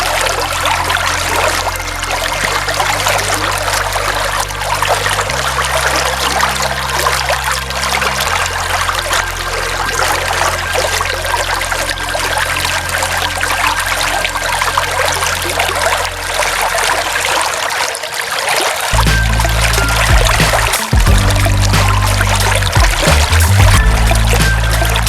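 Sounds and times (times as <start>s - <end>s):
low droning chord: 0.0s - 18.3s, 18.9s - 25.0s
water pouring and splashing: 0.0s - 25.0s.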